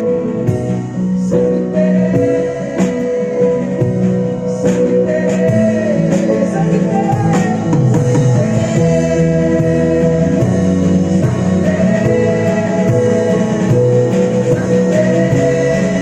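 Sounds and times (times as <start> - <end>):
band playing instrumental music: 0.0 - 16.0
guitar over held chords: 0.0 - 16.0
steady drum beat: 0.0 - 16.0.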